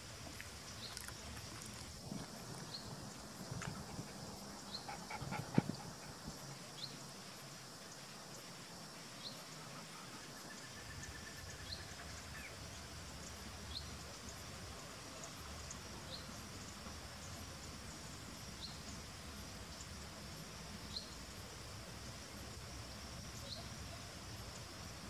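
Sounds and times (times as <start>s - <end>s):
high insect hum: 0.0s - 25.0s.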